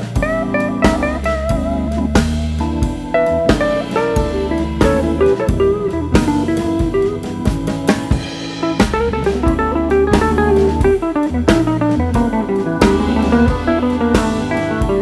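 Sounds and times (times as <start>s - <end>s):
guitar bass and drums music: 0.0s - 15.0s.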